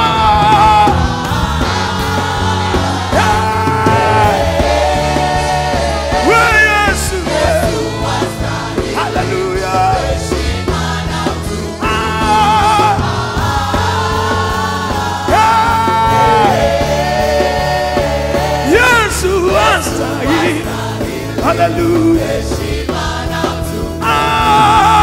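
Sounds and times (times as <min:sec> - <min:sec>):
band playing worship music: 0:00.0 - 0:25.0
voices singing held notes: 0:00.0 - 0:25.0.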